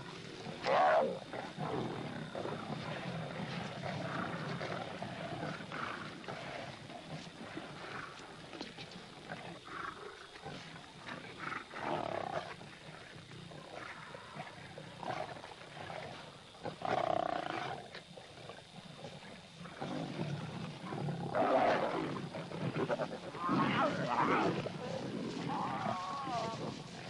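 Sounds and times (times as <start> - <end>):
lions growling and snarling: 0.2 - 27.0.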